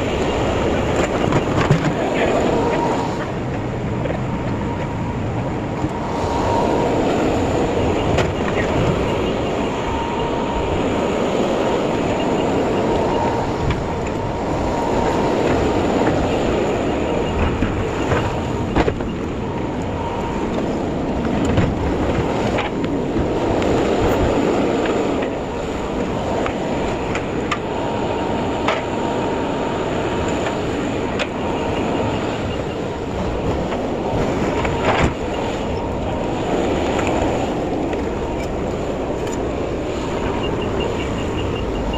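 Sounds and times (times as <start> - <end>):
truck road and engine rumble: 0.0 - 41.9.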